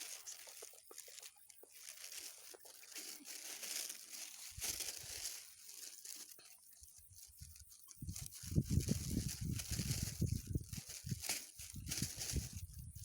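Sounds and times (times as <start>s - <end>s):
crinkly crackling ticks: 0.0s - 13.0s.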